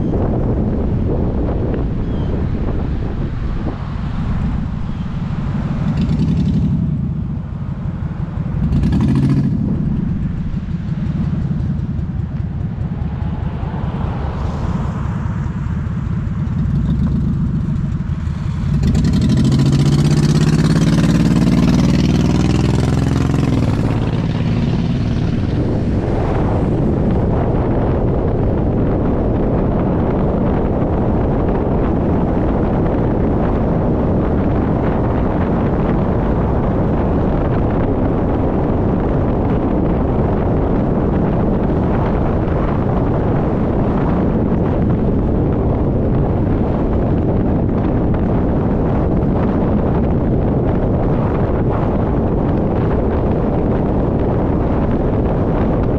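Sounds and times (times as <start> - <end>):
car engine and tyre noise: 0.0 - 55.9
wind buffeting microphone: 0.0 - 55.9.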